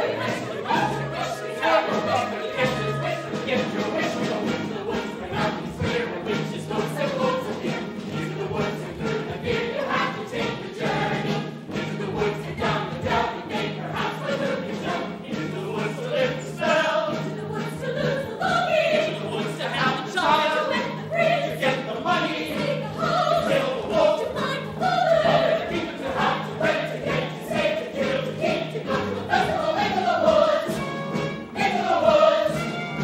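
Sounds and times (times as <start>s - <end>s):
ensemble singing in chorus: 0.0s - 33.0s
instrumental accompaniment: 0.0s - 33.0s.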